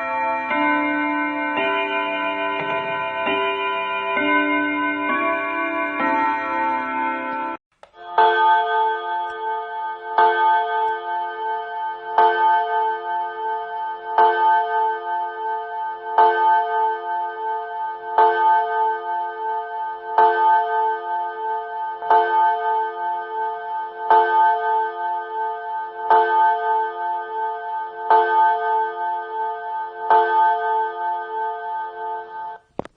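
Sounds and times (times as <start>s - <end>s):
clock chime tune: 0.0s - 32.6s
clock striking the hour: 0.0s - 32.7s
clock ticking: 0.0s - 32.9s.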